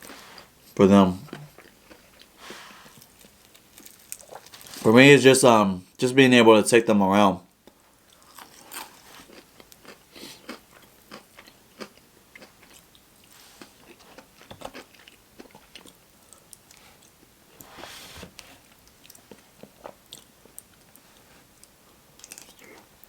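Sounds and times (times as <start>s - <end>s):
chewing and crunching fried food: 0.0s - 4.9s, 7.7s - 17.4s, 18.6s - 23.0s.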